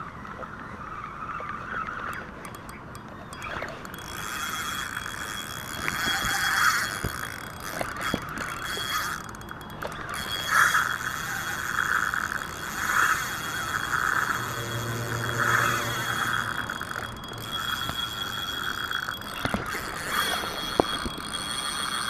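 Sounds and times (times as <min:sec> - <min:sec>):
fishing reel drag ratcheting: 0:01.7 - 0:22.0
reel handle cranking: 0:01.8 - 0:22.0.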